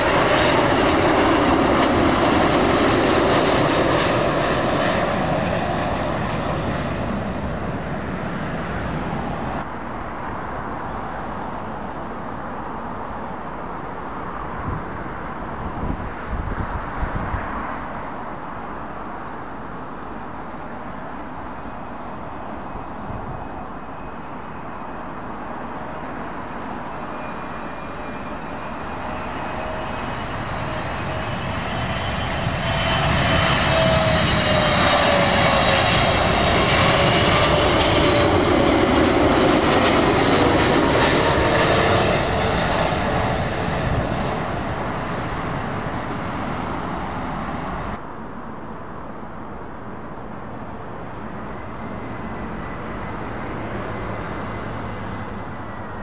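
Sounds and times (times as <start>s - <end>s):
distant jet: 0.0s - 56.0s
jet airliner passing overhead: 0.0s - 56.0s.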